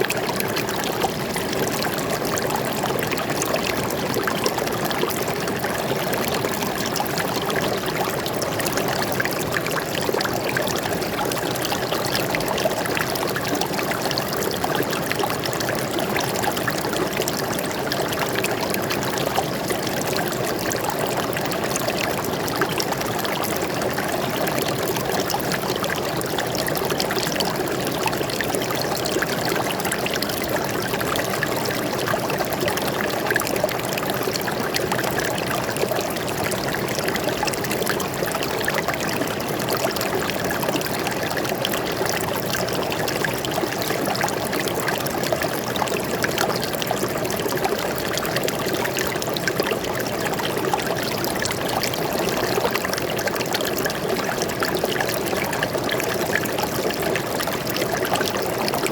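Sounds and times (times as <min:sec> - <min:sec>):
stream of water trickling: 0:00.0 - 0:58.9.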